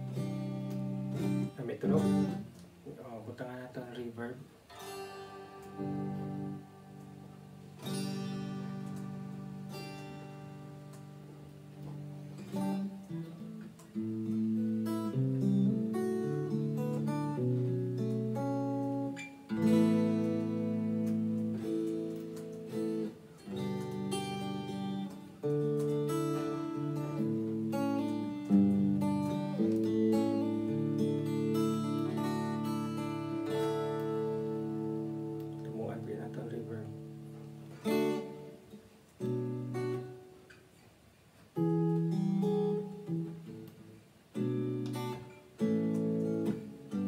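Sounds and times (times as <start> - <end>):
guitar strumming and picking: 0.0 - 47.0.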